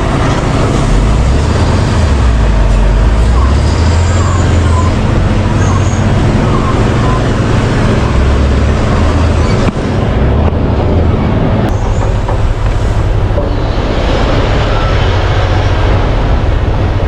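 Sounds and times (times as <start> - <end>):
diesel engines droning: 0.0 - 17.0.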